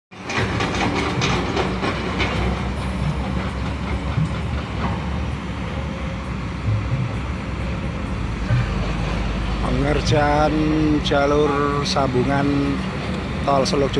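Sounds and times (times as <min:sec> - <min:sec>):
heavy machinery rumbling: 0:00.1 - 0:13.9
metallic clanking: 0:00.1 - 0:13.9.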